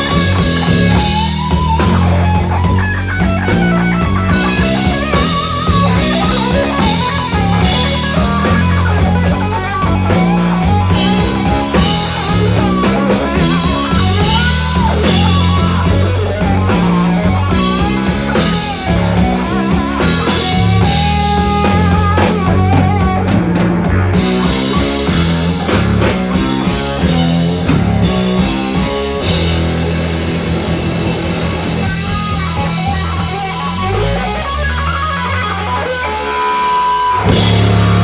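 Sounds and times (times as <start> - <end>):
bass guitar: 0.0 - 38.0
drum kit: 0.0 - 38.0
electric guitar lead: 0.0 - 38.0.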